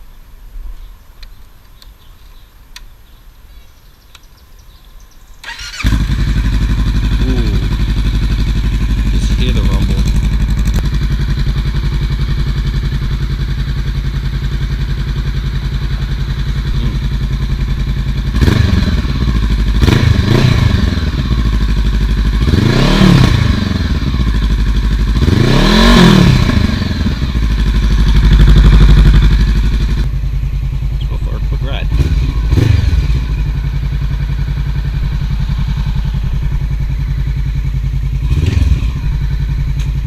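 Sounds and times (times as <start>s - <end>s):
motorcycle engine idling: 5.4s - 40.0s
motorcycle engine revving: 5.4s - 40.0s.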